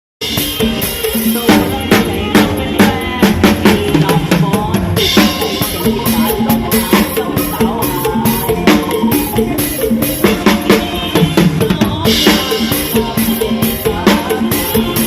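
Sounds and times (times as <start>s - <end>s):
band music: 0.2s - 15.0s
drum kit beat: 0.2s - 15.0s.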